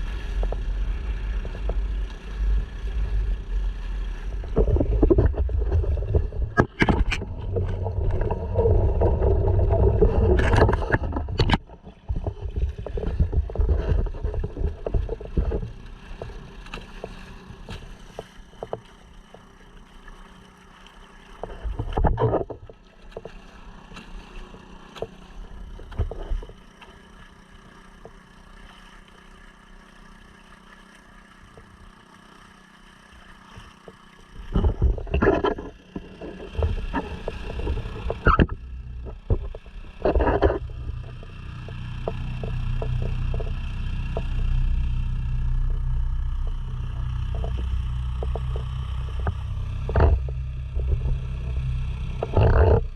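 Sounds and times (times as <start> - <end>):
outboard motor running: 0.0 - 52.9
water noise: 0.0 - 52.9.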